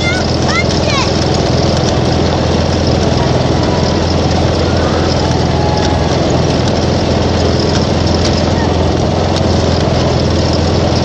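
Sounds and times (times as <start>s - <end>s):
loud motor drone: 0.0s - 11.0s
low hum: 0.0s - 11.0s.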